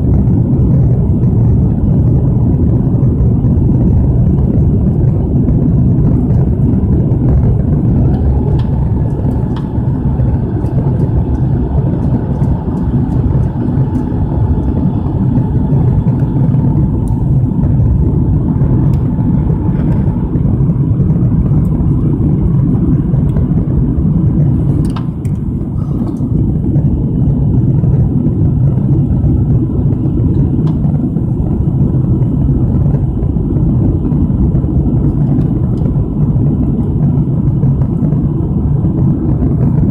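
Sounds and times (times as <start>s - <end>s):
faint engine whine: 0.0s - 39.9s
jet engines rumbling: 0.0s - 39.9s.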